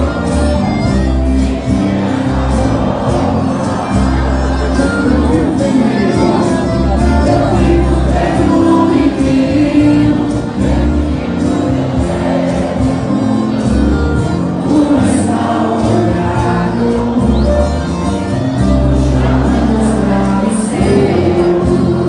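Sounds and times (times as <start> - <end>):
accordion: 0.0 - 22.0
acoustic guitars: 0.0 - 22.0
drums: 0.0 - 22.0
person singing: 1.2 - 22.0.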